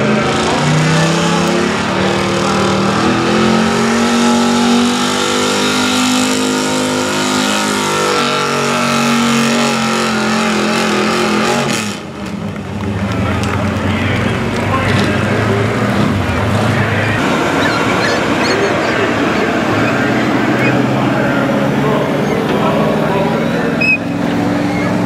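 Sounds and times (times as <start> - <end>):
truck engine at full throttle: 0.0 - 25.0.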